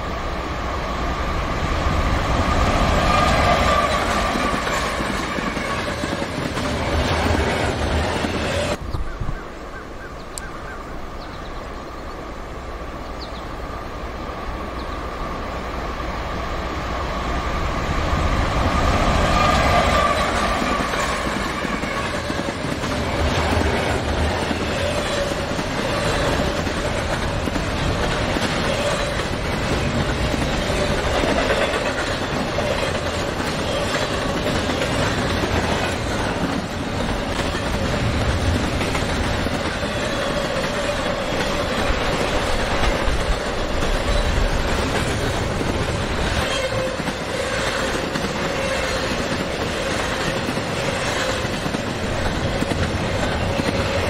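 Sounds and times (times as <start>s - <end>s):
freight train wheels rumbling on rail: 0.0s - 54.0s
clickety-clack of train cars: 1.3s - 9.2s, 17.4s - 54.0s.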